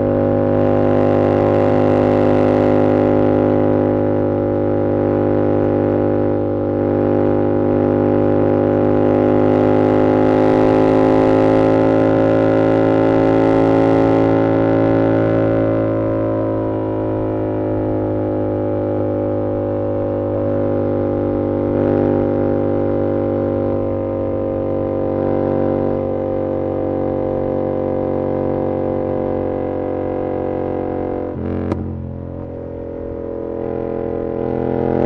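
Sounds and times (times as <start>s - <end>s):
motorcycle engine cruising: 0.0s - 35.0s.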